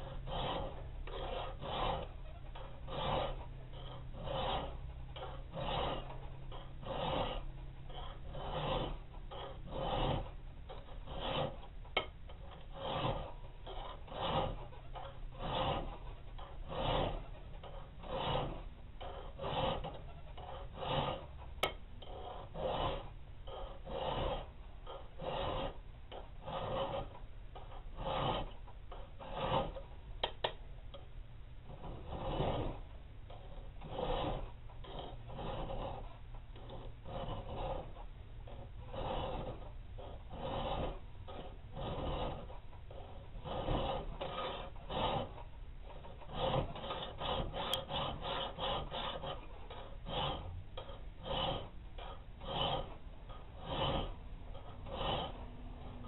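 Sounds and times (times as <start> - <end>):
file rasping on steel: 0.0 - 56.0.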